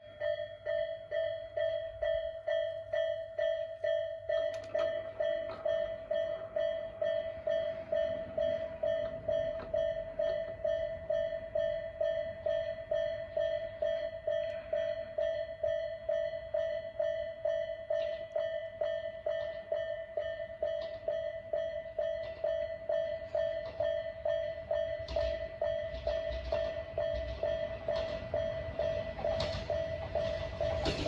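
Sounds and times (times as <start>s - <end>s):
level crossing bell ringing: 0.0s - 31.0s
train rumble: 0.1s - 18.4s, 19.1s - 31.0s.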